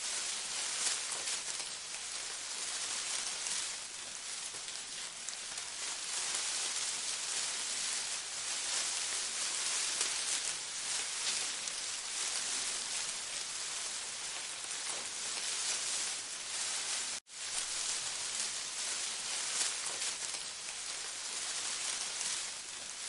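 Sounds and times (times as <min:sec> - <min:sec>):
steady rain-like hiss: 0:00.0 - 0:23.0.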